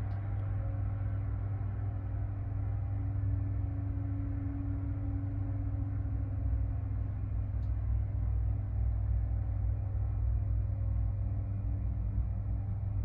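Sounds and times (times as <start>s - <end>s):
elevator rumble and hum: 0.0s - 13.0s.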